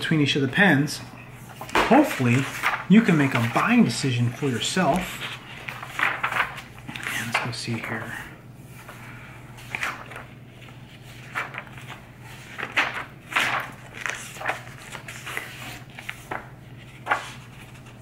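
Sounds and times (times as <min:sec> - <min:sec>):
steady low hum: 0:00.0 - 0:18.0
notebook pages flipping: 0:01.5 - 0:08.1, 0:09.6 - 0:18.0.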